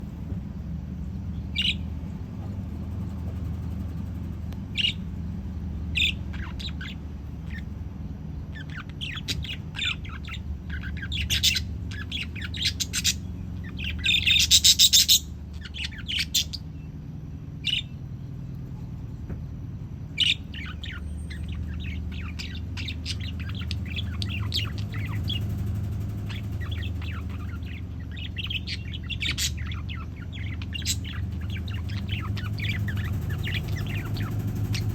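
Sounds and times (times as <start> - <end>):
budgerigars chirping: 0.0 - 19.0, 19.8 - 34.9
steady low hum: 0.0 - 34.9.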